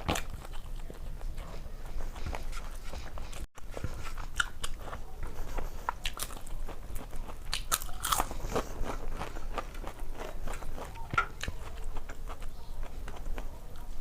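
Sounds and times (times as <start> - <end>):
chewing and crunching food: 0.0 - 14.0.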